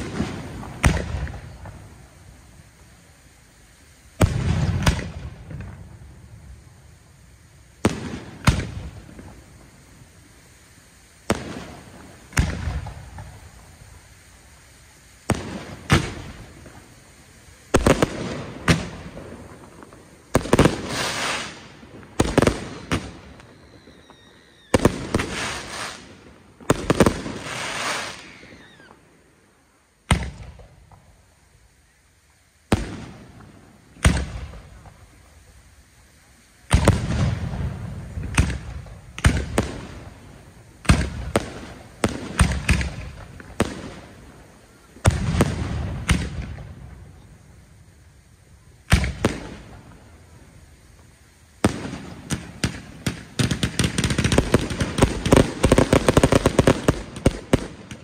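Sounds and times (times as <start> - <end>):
firework shells booming: 0.0 - 2.5, 4.1 - 6.6, 7.6 - 14.3, 14.9 - 29.0, 30.0 - 31.2, 32.7 - 35.3, 36.6 - 47.5, 48.8 - 50.1, 50.9 - 58.0
firework crackling: 0.0 - 58.0.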